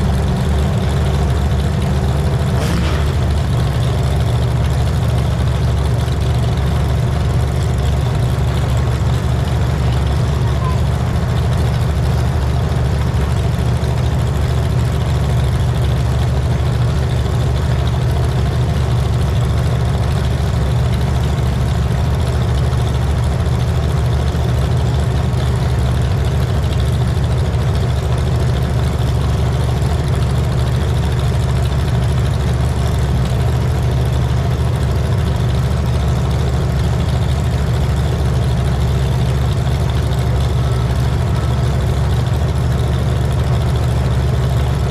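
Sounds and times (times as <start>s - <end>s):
vehicle engine running steadily: 0.0s - 44.9s.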